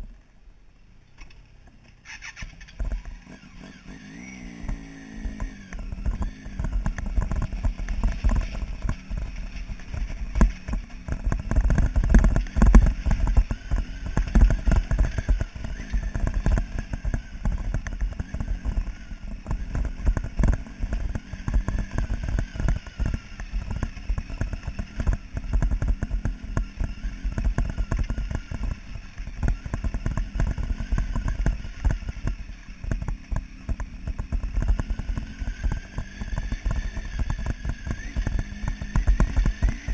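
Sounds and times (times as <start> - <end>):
motorcycle engine running: 2.0 - 39.9
stones clattering under motorcycle: 4.5 - 39.9.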